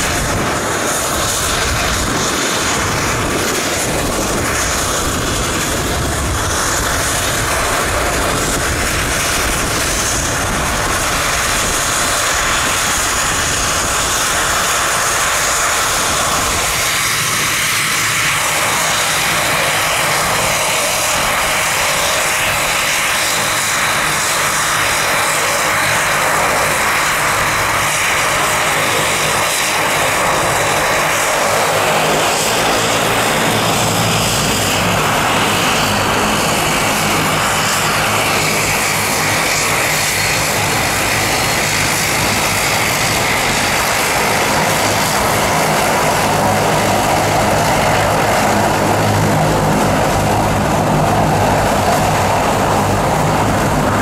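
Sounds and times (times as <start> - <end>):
high engine whine: 0.0 - 54.0
turboprop engines running: 0.0 - 54.0.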